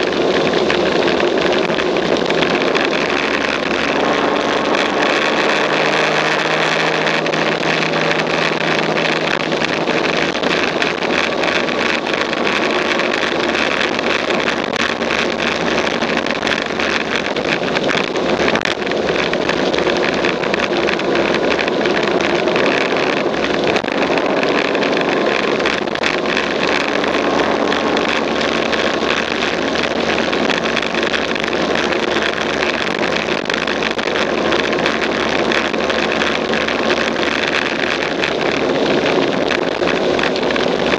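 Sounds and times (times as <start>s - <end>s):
motorcycle engine running: 0.0s - 40.9s
wind rushing across microphone: 0.0s - 40.9s.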